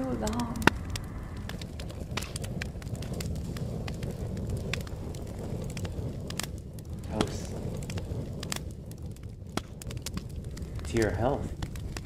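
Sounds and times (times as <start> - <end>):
fireplace fire crackling: 0.0 - 12.0.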